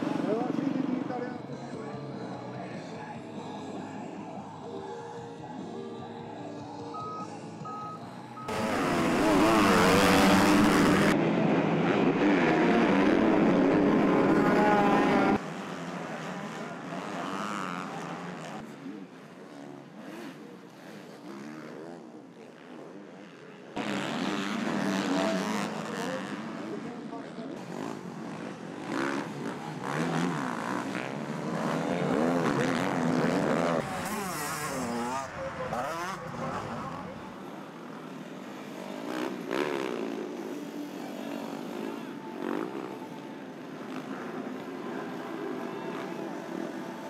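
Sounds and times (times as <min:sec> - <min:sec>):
motocross bike engines revving: 0:07.0 - 0:47.0.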